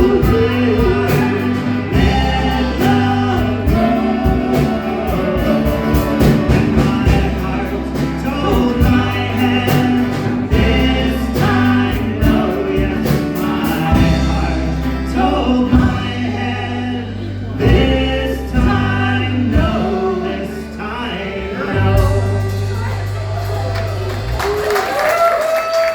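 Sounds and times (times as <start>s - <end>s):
regular drum beat: 0.0s - 16.8s, 17.6s - 20.3s, 21.8s - 25.0s
choir singing in harmony: 0.0s - 23.2s
long held bass notes: 0.0s - 25.6s.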